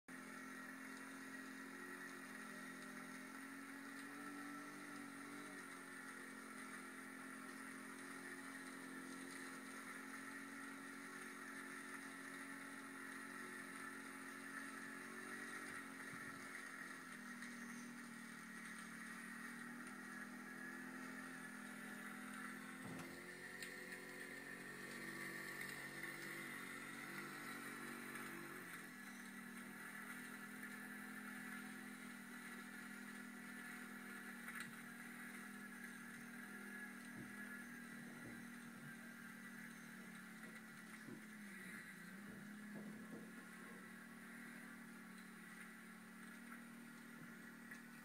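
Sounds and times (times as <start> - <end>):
vehicle engines droning: 0.1 - 48.0.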